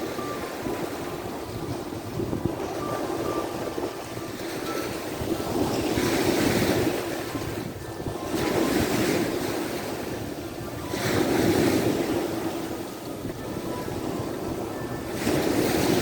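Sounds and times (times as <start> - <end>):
sea waves breaking on shore: 0.0 - 16.0.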